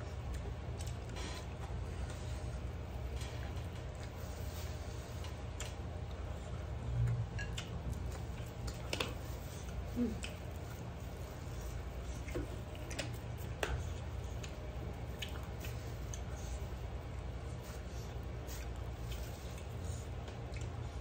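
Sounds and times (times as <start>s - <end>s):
person chewing: 0.0s - 21.0s
steady low hum: 0.0s - 21.0s.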